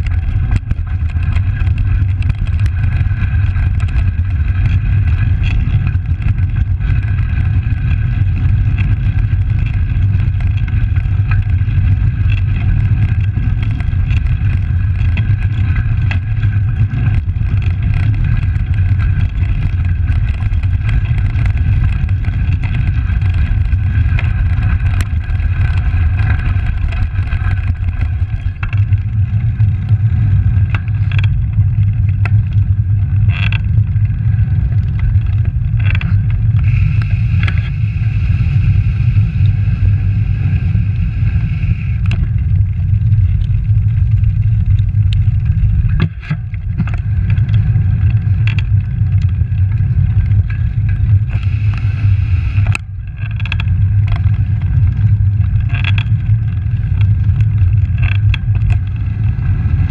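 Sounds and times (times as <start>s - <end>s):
tyre road vibration: 0.0s - 59.9s
wind rumble: 0.0s - 59.9s.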